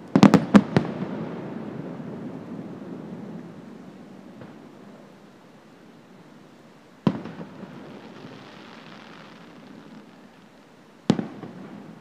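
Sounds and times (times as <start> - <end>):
firework booms with rolling echo: 0.0 - 5.1, 7.0 - 12.0.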